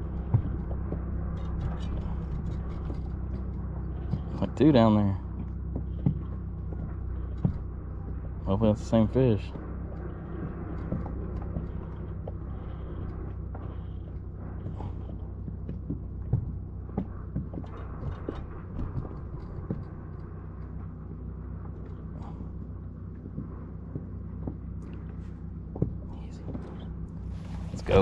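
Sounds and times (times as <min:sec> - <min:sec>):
electric trolling motor hum: 0:00.0 - 0:28.0.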